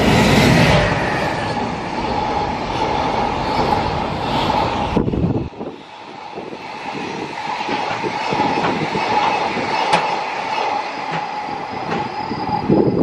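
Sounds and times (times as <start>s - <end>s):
clickety-clack of rails: 0.0s - 13.0s
loud low rush: 0.0s - 13.0s
train wheels on rails: 0.0s - 13.0s.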